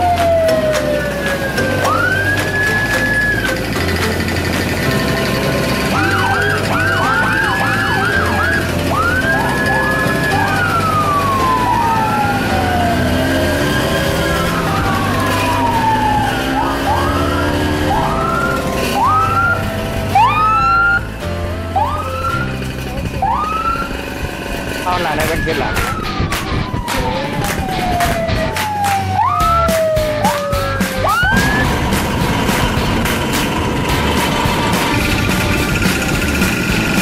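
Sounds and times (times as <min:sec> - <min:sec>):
police siren: 0:00.0 - 0:03.8, 0:05.7 - 0:24.2, 0:24.8 - 0:33.0.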